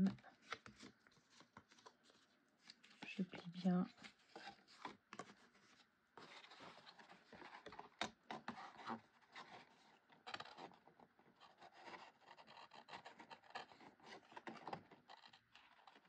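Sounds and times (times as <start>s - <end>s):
cardstock rustling and scraping: 0.0s - 16.0s.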